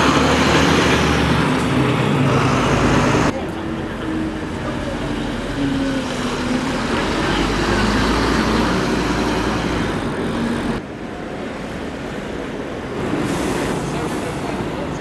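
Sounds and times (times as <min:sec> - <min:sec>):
bus passing close by: 0:00.0 - 0:15.0
street traffic noise: 0:00.0 - 0:15.0.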